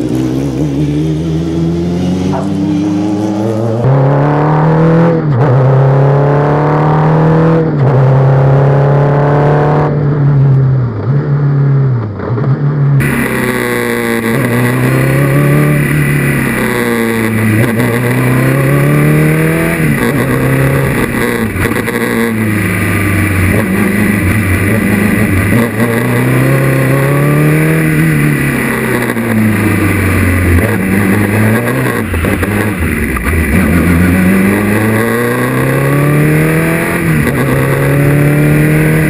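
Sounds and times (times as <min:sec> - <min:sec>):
racing car engine revving: 0:00.0 - 0:10.1, 0:13.0 - 0:39.0.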